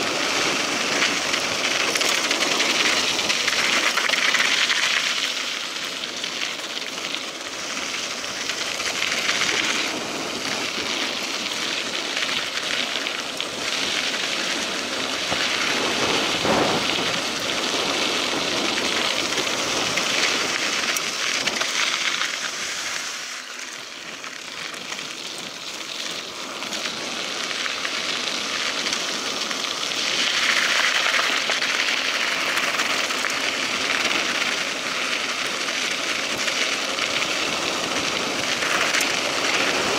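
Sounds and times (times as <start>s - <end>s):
bike tyres rolling on gravel: 0.0s - 39.9s.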